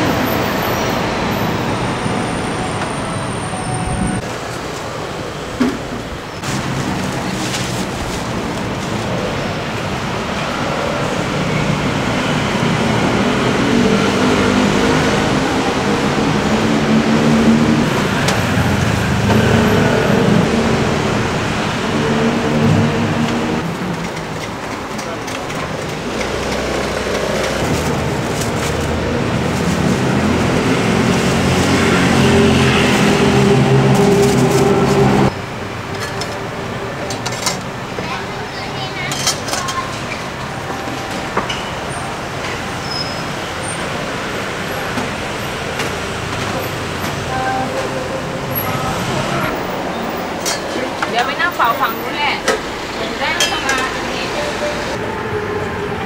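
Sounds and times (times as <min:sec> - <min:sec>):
street traffic: 0:00.0 - 0:56.0
vehicle engine: 0:00.0 - 0:56.0.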